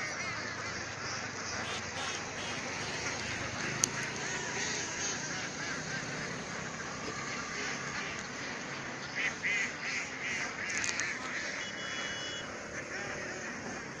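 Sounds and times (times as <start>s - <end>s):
ducks quacking: 0.0s - 14.0s
steady background noise: 0.0s - 14.0s.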